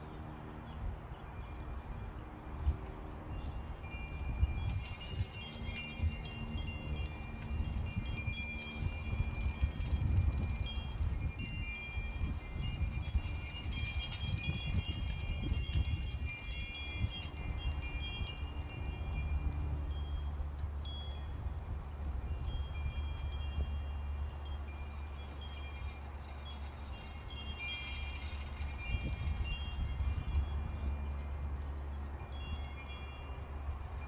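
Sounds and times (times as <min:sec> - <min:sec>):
metal wind chimes ringing: 0:00.0 - 0:34.0.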